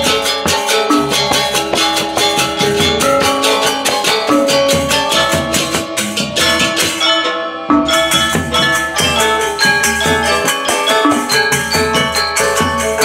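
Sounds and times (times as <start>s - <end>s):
metallophones ringing: 0.0s - 13.0s.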